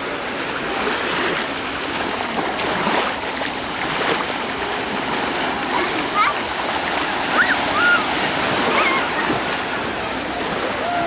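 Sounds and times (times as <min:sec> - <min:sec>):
small sea waves lapping: 0:00.0 - 0:11.0
water splashing in shallows: 0:00.0 - 0:11.0.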